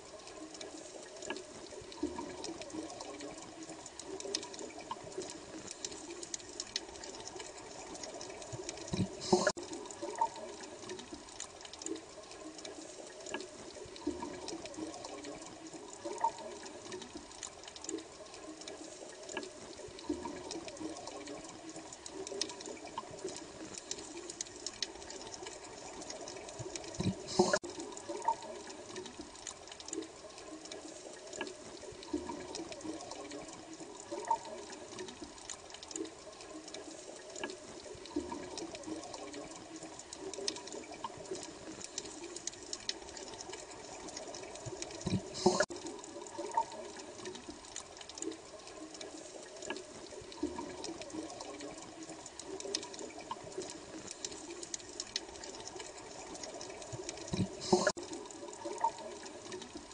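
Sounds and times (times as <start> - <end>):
aquarium water bubbling: 0.0 - 59.9.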